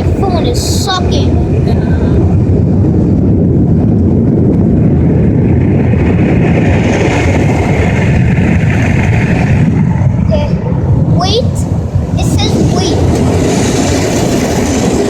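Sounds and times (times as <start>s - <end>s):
car wash blower dryers blasting: 0.0s - 15.0s.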